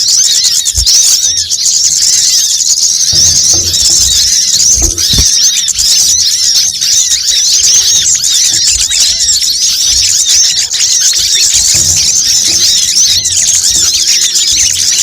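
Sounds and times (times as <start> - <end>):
high-pitched bird twittering: 0.0 - 15.0.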